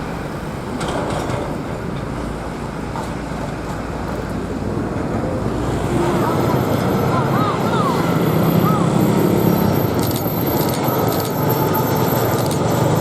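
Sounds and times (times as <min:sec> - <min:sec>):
jet airliner engines roaring: 0:00.0 - 0:13.0.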